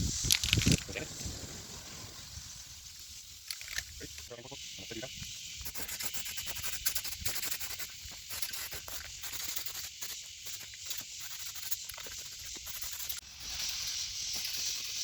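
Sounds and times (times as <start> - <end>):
welding arc hissing and crackling: 0.0 - 15.0.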